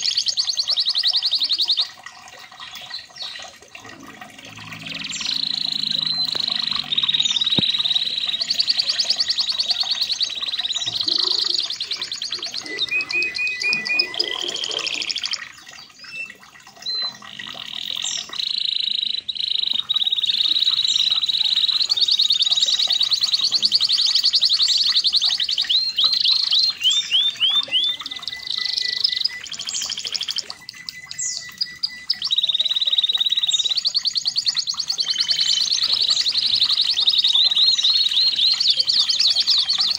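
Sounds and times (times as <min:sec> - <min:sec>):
canary singing trills: 0:00.0 - 0:02.0, 0:02.6 - 0:39.9.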